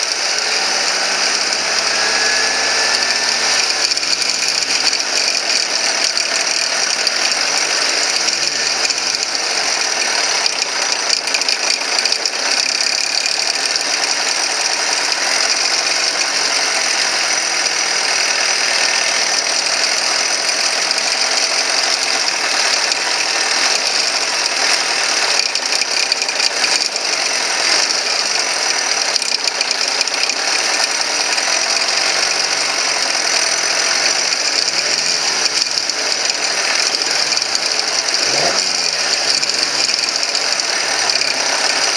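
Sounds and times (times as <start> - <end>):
car engine running: 0.0 - 41.9
mechanical ticking and rattling: 0.0 - 41.9.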